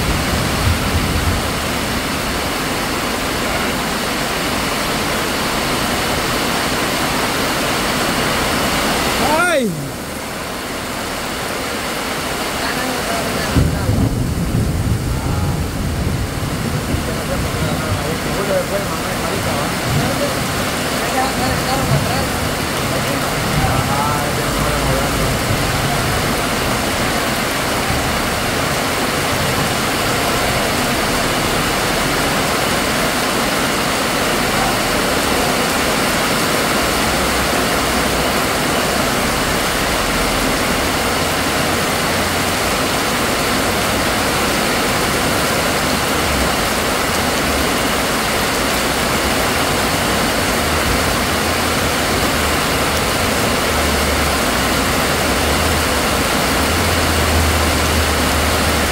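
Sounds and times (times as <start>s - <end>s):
heavy rain on wet street: 0.0s - 58.9s.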